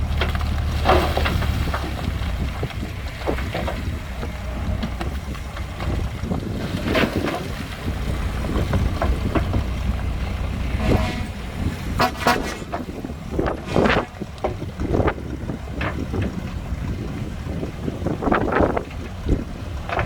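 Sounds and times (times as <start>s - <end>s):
diesel machinery rumbling: 0.0s - 20.0s.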